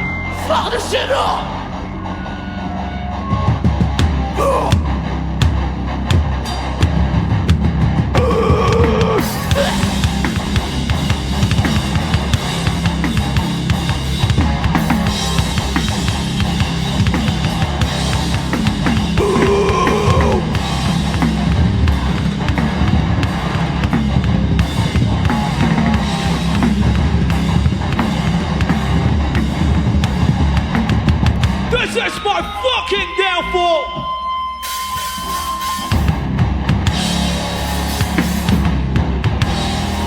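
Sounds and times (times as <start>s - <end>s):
punk band playing live: 3.2s - 40.0s
fast drum kit pounding: 3.5s - 32.7s, 35.9s - 40.0s.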